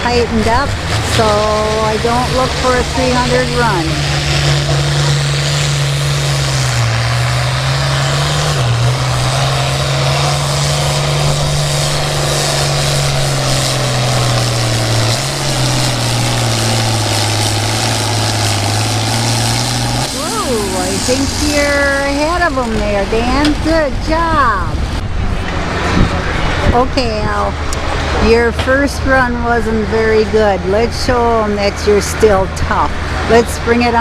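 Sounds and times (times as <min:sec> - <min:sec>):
tractor engine at full throttle: 0:00.0 - 0:34.0.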